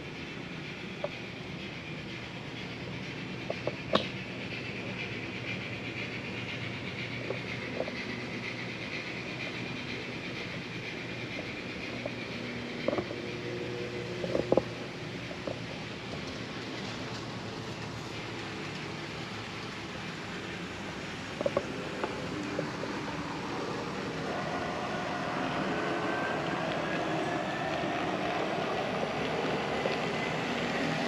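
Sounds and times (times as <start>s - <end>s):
steady whir and hiss: 0.0s - 31.0s.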